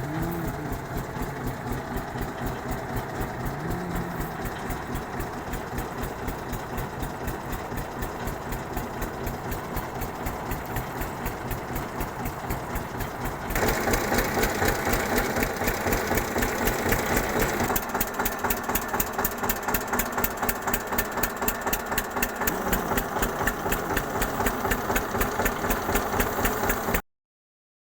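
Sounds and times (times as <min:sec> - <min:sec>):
tractor engine knocking: 0:00.0 - 0:27.0.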